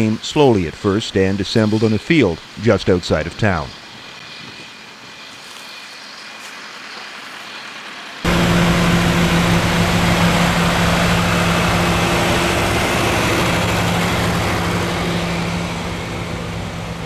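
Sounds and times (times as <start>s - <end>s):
tractor engine drone: 0.0s - 6.7s, 8.2s - 17.0s.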